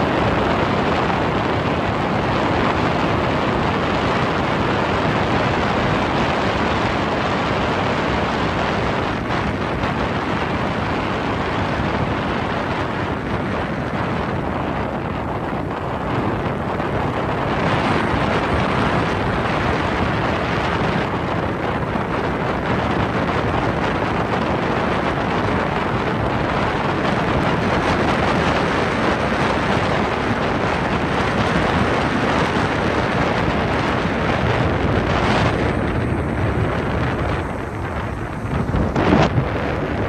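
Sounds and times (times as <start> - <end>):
boat running noise: 0.0 - 40.0
wind buffeting microphone: 0.0 - 40.0.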